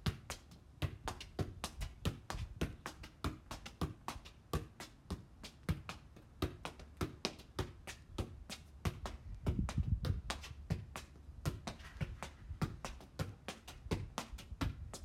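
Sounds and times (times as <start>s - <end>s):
foot tapping soccer ball: 0.0s - 15.0s.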